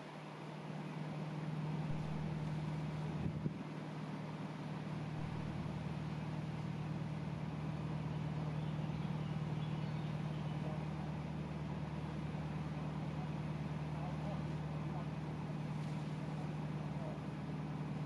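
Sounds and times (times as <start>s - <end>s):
boat diesel engine humming: 0.0s - 18.0s.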